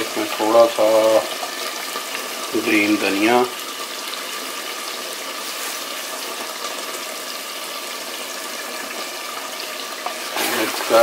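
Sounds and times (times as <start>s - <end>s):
gravy simmering in a pot: 0.0s - 11.0s.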